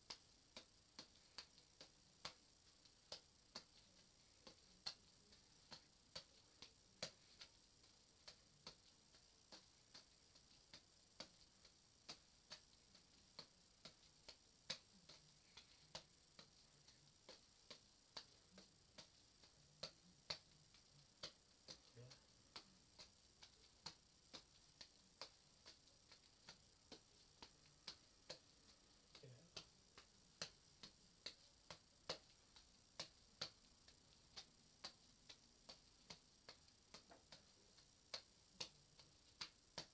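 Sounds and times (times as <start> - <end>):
juggling balls smacking into hands: 0.1 - 39.9.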